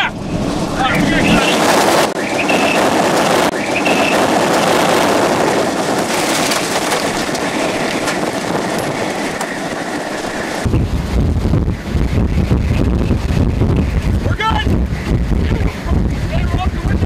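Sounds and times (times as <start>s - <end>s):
driving rain pattering: 0.0s - 17.0s
wind rushing: 0.0s - 17.0s.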